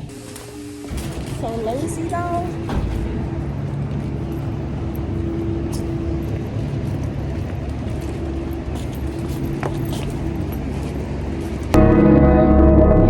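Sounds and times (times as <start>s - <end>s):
car road and engine noise: 0.0s - 11.9s.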